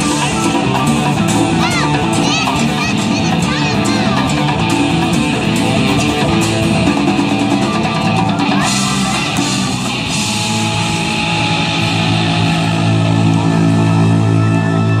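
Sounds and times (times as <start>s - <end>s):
live rock band playing: 0.0s - 15.0s
held guitar chord ringing: 2.6s - 15.0s.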